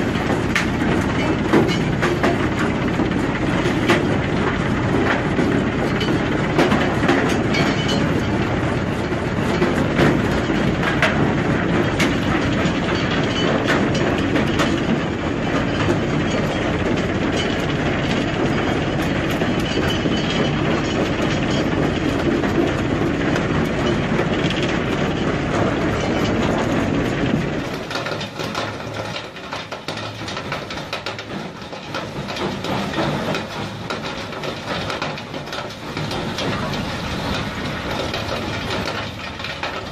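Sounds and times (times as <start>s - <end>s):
industrial shredder grinding: 0.0s - 39.9s.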